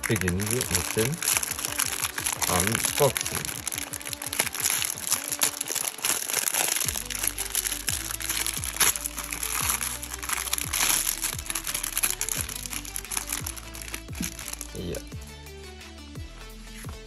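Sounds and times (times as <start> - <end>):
plastic film crinkling: 0.0 - 15.2.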